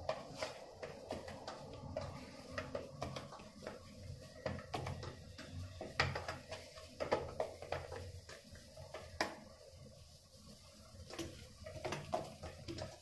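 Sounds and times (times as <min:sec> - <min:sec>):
hands kneading dough in steel bowl: 0:00.0 - 0:13.0.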